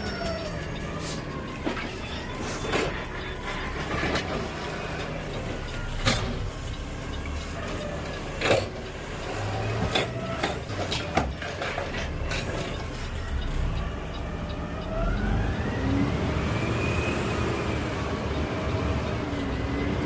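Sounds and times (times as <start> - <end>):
garbage truck engine rumble: 0.0 - 20.0.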